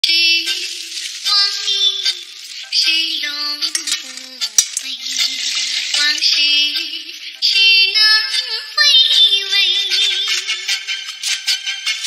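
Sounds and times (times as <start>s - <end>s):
pop song accompaniment with beat: 0.0s - 12.0s.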